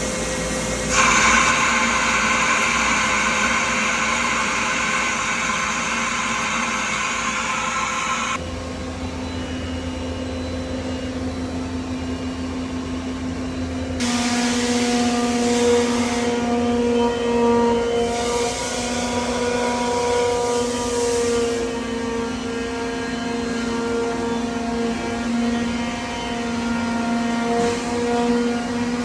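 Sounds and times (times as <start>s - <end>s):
cnc machine whining: 0.0s - 29.0s.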